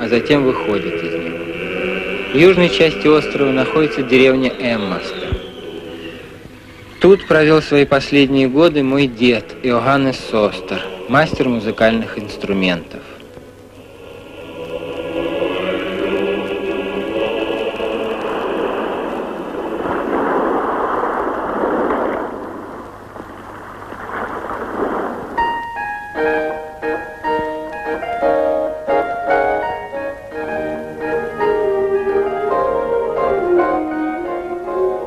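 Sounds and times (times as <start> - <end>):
sustained orchestral wash: 0.0 - 35.0.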